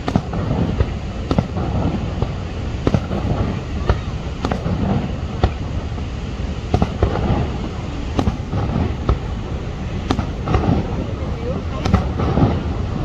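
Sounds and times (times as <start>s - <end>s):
fireworks bursting: 0.0s - 13.0s
steady low rumble: 0.0s - 13.0s.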